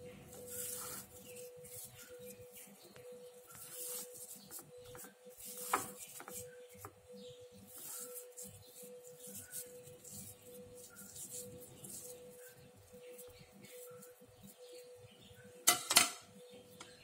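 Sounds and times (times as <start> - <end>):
dough crumbling and rustling: 0.0 - 14.9
faint steady hum: 0.0 - 17.0.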